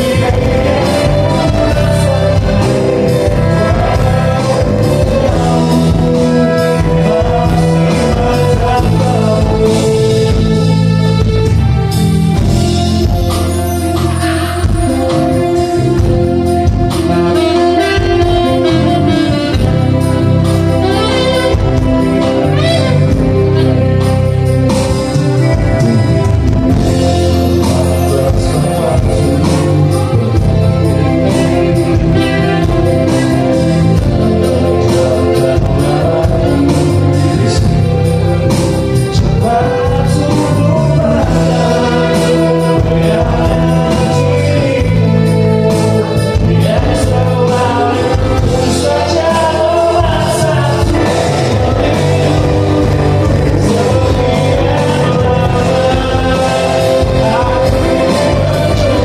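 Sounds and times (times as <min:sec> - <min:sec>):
lead vocal singing: 0:00.0 - 0:59.0
live band playing: 0:00.0 - 0:59.0.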